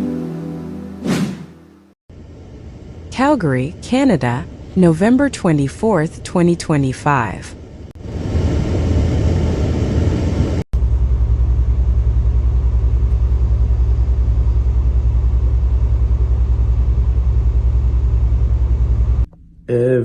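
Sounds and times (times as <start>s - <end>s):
vehicle engine rumbling: 2.1s - 20.0s.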